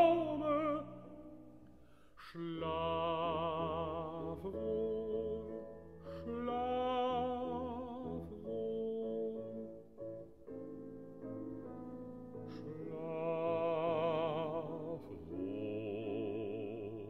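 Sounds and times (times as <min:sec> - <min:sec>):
baritone singing with vibrato: 0:00.0 - 0:01.5, 0:02.2 - 0:09.9, 0:12.5 - 0:17.0
piano accompaniment: 0:00.0 - 0:17.0.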